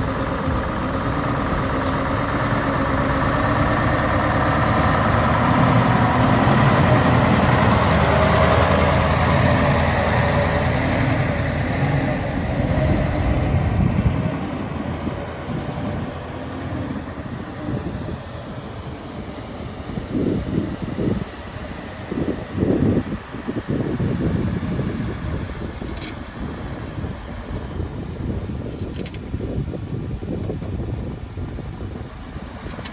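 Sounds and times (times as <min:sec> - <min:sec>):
heavy diesel machinery engine: 0:00.0 - 0:32.9.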